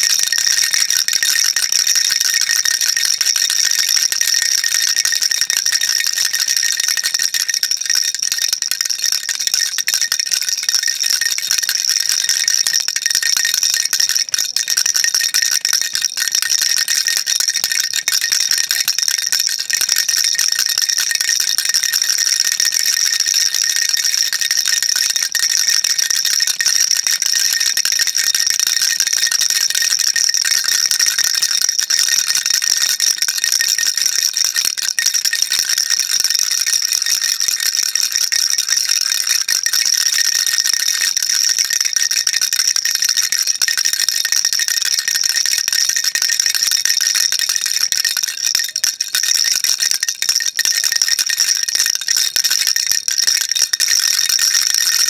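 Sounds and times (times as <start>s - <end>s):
baby rattle shaken: 0.0s - 49.2s, 49.8s - 54.2s.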